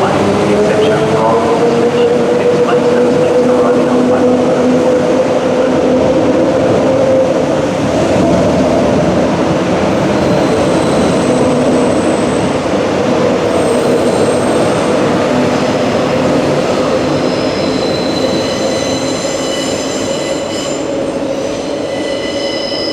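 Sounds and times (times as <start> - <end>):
electric train rumbling: 0.0 - 22.9.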